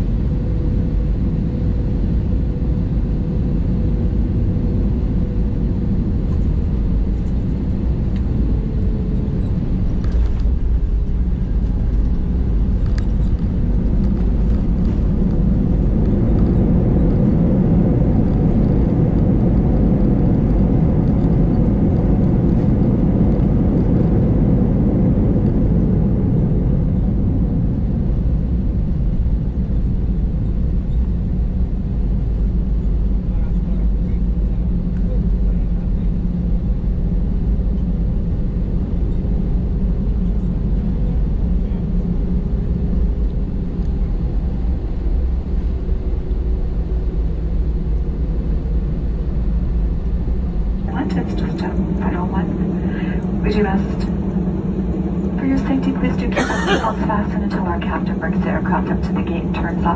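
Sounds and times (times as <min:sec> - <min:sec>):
aircraft engine and airflow rumble: 0:00.0 - 0:59.9.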